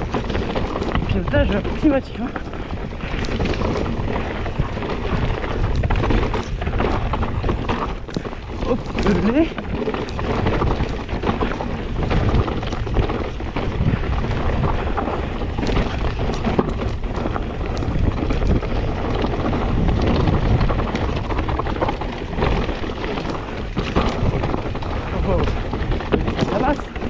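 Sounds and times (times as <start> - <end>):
bike knocks and rattles: 0.0 - 27.0
bike tyre noise: 0.0 - 27.0
wind buffeting microphone: 0.0 - 27.0.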